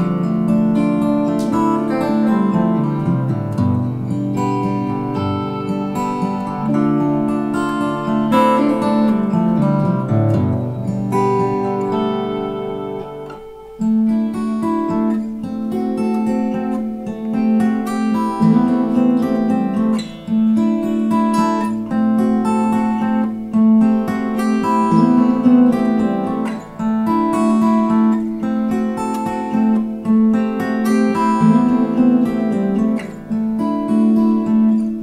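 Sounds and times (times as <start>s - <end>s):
acoustic guitar strumming: 0.0s - 35.0s
electric guitar picking notes: 0.0s - 35.0s.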